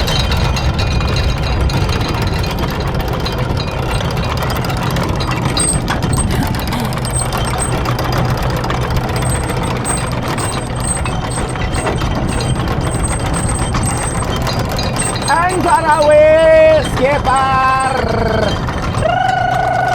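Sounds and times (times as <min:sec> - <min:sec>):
boat engine humming: 0:00.0 - 0:19.9.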